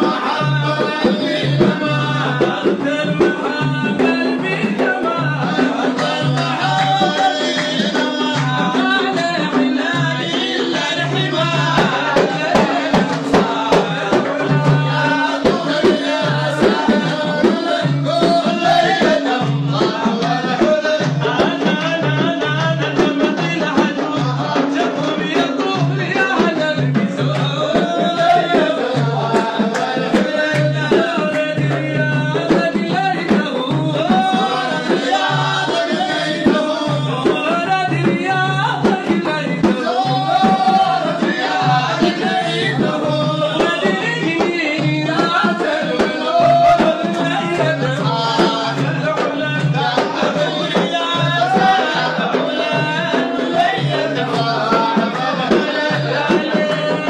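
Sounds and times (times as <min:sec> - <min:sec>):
frame drums beating: 0:00.0 - 0:57.0
men singing: 0:00.0 - 0:57.0.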